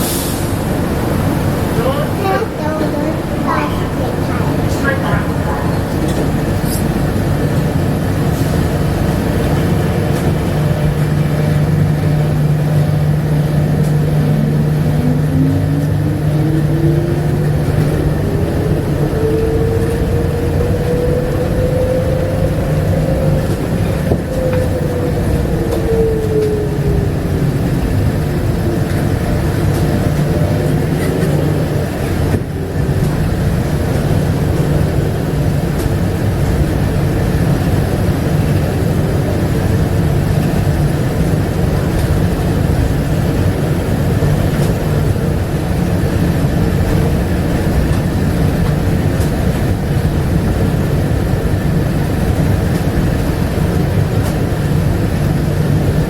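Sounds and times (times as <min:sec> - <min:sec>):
people-mover car rumble: 0:00.0 - 0:56.0.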